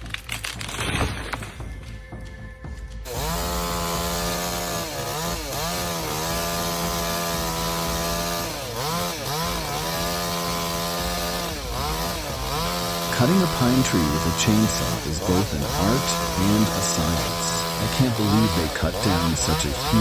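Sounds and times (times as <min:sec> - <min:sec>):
chainsaw cutting wood: 0:00.0 - 0:02.1, 0:02.7 - 0:20.0.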